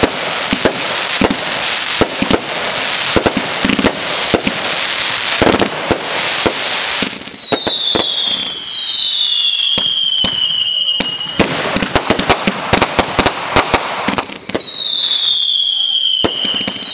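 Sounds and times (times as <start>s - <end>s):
falling firework whistle: 0.0s - 16.9s
fireworks pops and bangs: 0.0s - 16.9s.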